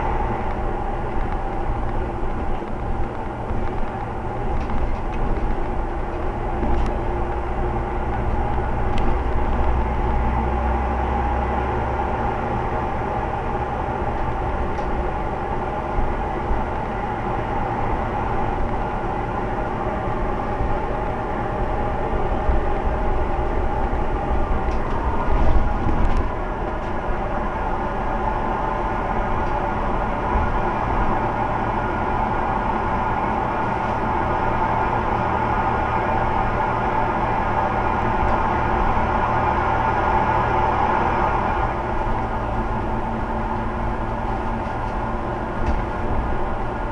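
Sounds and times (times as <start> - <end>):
bus engine rumbling: 0.0 - 46.9.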